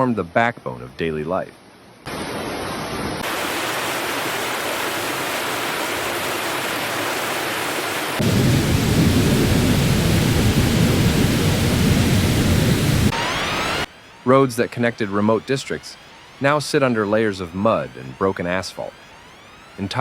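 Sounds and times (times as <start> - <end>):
floodwater rushing: 2.1 - 20.0.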